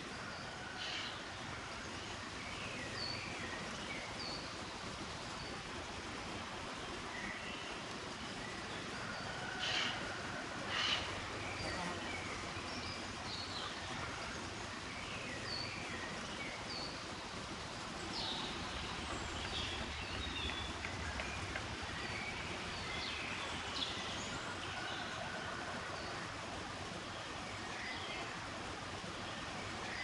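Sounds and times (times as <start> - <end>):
steady outdoor hiss: 0.0 - 30.0.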